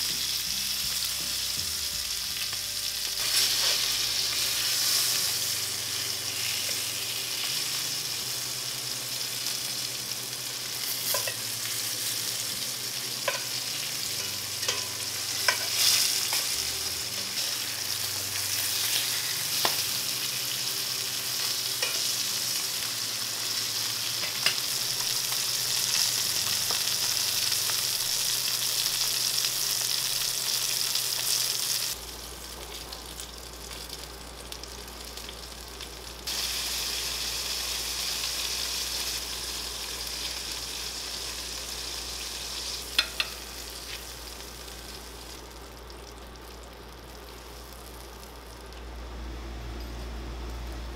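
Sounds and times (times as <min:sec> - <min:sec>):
fish sizzling in oil: 0:00.0 - 0:48.8.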